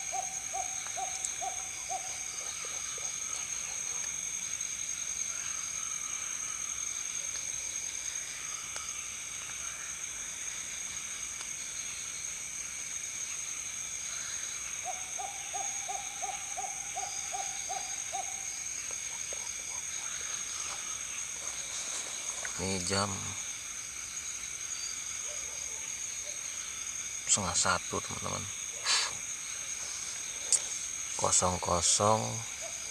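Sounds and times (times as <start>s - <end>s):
night insects chorus: 0.0s - 32.9s.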